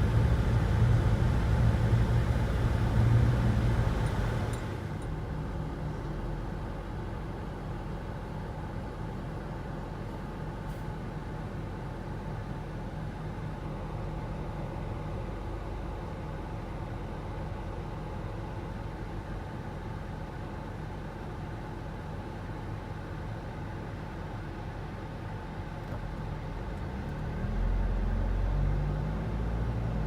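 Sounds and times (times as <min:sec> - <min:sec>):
diesel van engine rumbling: 0:00.0 - 0:30.0.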